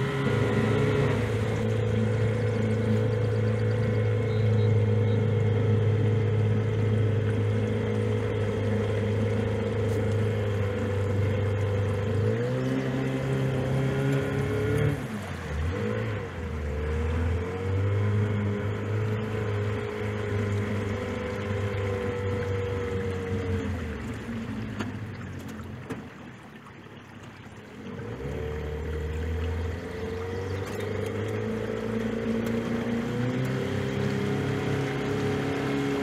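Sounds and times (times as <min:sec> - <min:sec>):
outboard boat motor running: 0:00.0 - 0:36.0.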